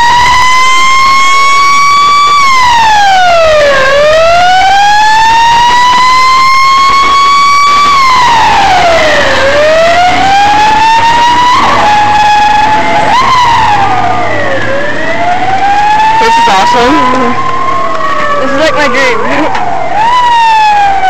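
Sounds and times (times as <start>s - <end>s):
fire engine siren wailing: 0.0s - 21.0s.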